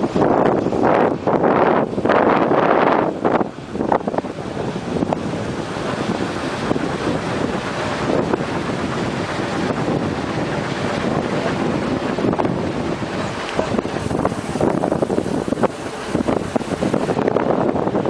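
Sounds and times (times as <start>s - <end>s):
wind blowing over microphone: 0.0s - 18.0s.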